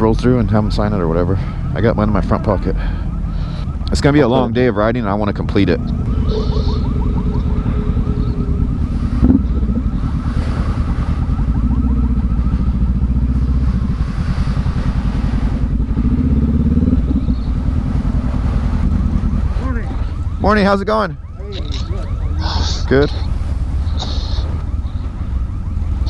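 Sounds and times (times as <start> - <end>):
motorcycle engine running at low revs: 0.0 - 20.5, 22.1 - 26.0.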